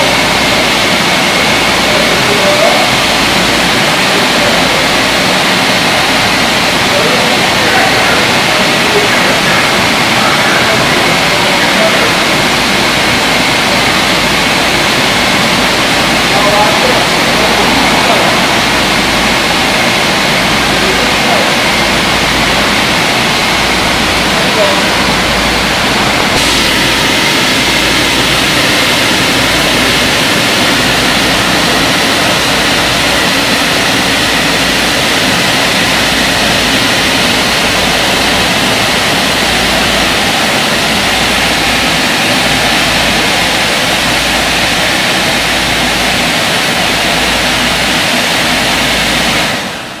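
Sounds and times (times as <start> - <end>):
car wash machine rushing: 0.0 - 50.0.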